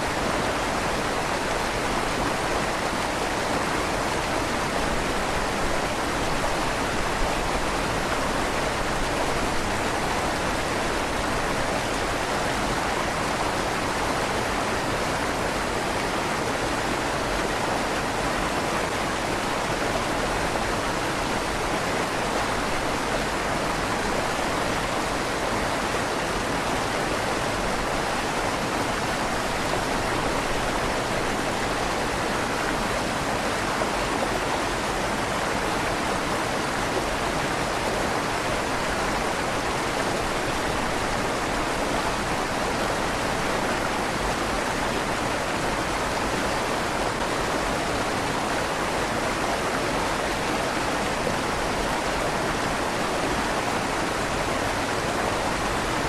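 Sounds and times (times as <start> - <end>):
river water flowing under bridge: 0.0 - 56.0.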